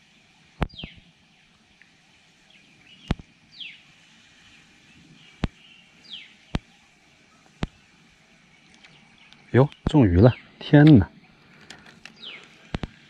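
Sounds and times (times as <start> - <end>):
bird chirping: 0.6 - 1.5, 2.4 - 13.0.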